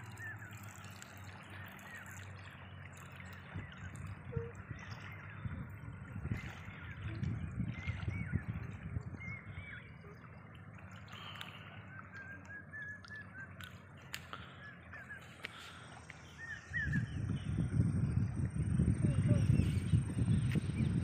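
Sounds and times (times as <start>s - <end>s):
birds chirping: 0.0s - 21.0s
low outdoor rumble: 0.0s - 21.0s.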